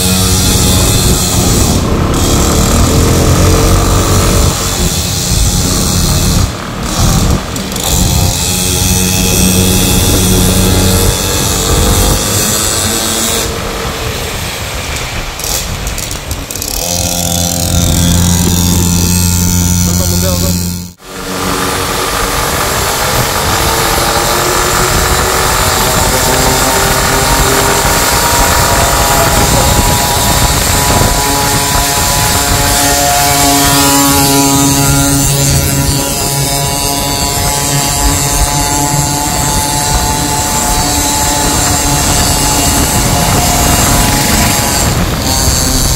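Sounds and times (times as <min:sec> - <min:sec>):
dirt bike engine buzzing: 0:00.0 - 0:45.9
rough riding noise: 0:00.0 - 0:45.9.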